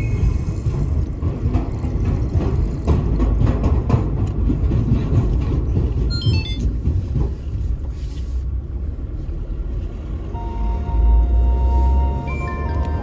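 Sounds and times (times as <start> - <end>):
diesel car engine and road rumble: 0.0 - 13.0.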